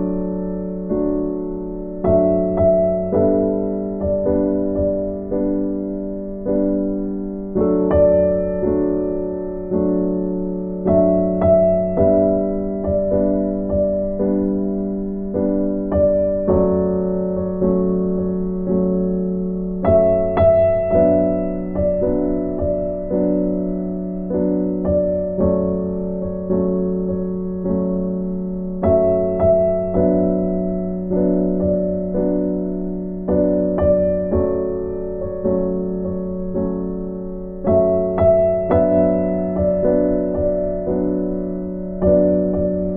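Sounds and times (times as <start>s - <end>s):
slow piano chords: 0.0s - 42.9s.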